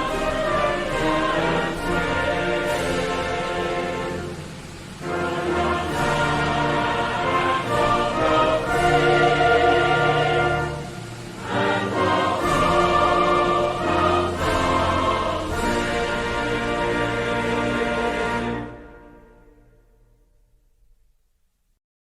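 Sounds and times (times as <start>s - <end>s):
choir singing held chords: 0.0s - 20.1s
orchestral music: 0.0s - 20.6s.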